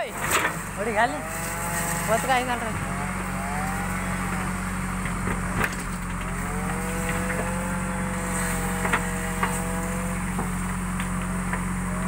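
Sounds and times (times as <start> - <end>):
diesel engine running under load: 0.0 - 12.0
hydraulic whine: 0.0 - 12.0.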